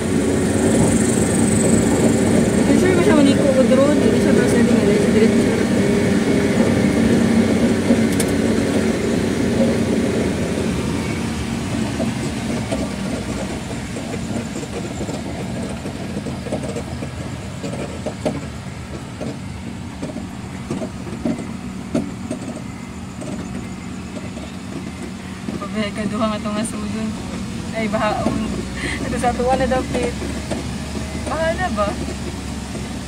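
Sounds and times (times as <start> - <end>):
road noise: 0.0 - 33.0
vehicle engine running: 0.0 - 33.0.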